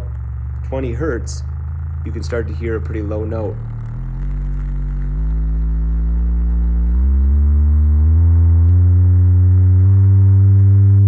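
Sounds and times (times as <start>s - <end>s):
low pure tone stepping up: 0.0s - 11.0s.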